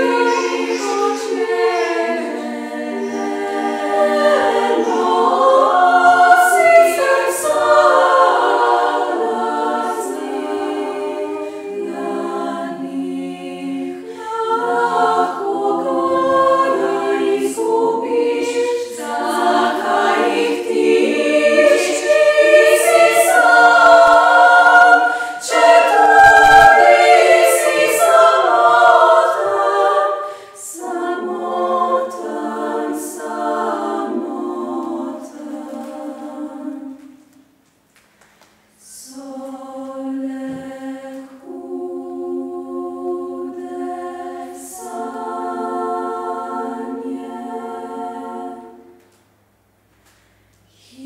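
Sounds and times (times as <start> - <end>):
women's choir singing a cappella: 0.0 - 37.5, 38.8 - 49.5, 50.7 - 51.0.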